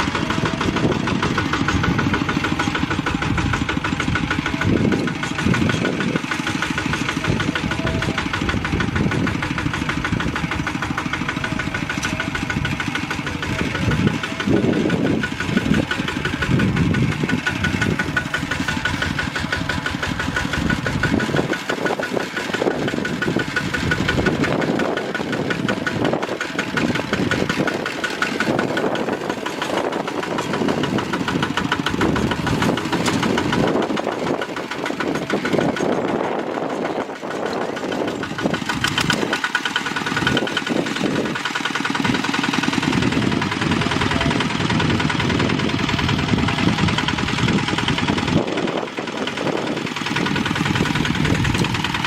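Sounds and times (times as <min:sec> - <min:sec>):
bulldozer diesel engine clattering: 0:00.0 - 0:52.0.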